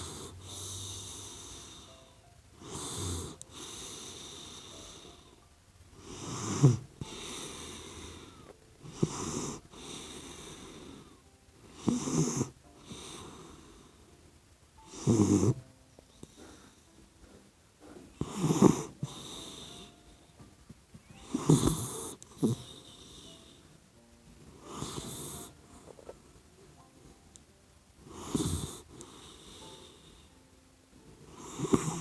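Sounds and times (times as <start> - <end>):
wheezy breath: 0.0 - 5.4, 6.0 - 14.2, 14.8 - 20.5, 21.1 - 23.8, 24.4 - 26.2, 28.0 - 30.5, 31.2 - 32.0
puppy snoring: 0.0 - 14.1, 14.8 - 23.8, 24.4 - 27.2, 28.0 - 30.5, 31.2 - 32.0.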